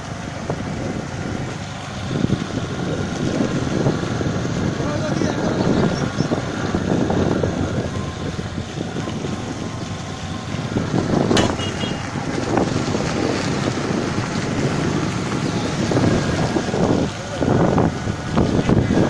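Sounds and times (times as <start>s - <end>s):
road and engine noise: 0.0s - 19.0s
wind buffeting microphone: 0.0s - 19.0s.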